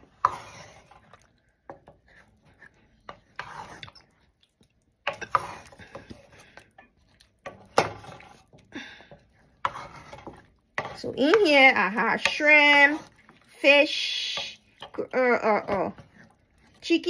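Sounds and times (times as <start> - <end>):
spoon stirring thick stew: 0.0 - 17.0.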